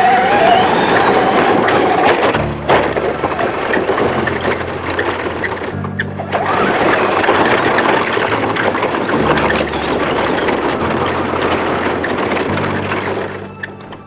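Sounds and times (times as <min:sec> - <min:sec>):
rc car motor and tyres: 0:00.0 - 0:14.0.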